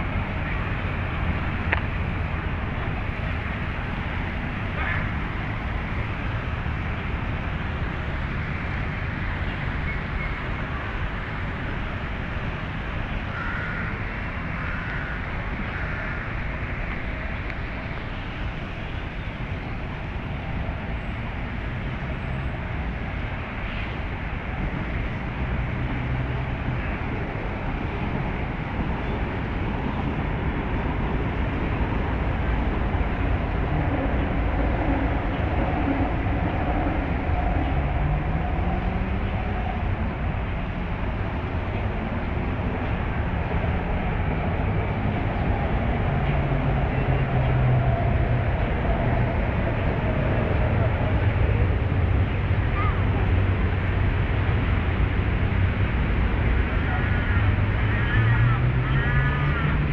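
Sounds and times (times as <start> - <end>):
distant city traffic hum: 0.0 - 59.9.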